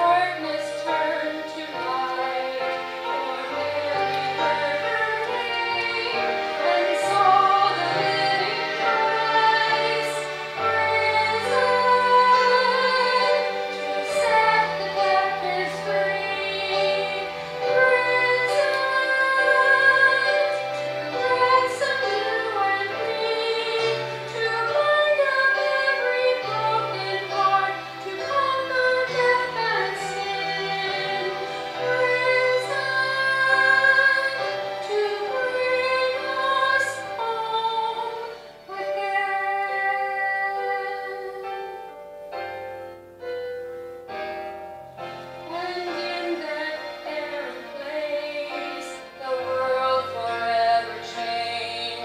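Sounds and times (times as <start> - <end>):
woman singing slow song: 0.0 - 41.7
instrumental accompaniment: 0.0 - 52.0.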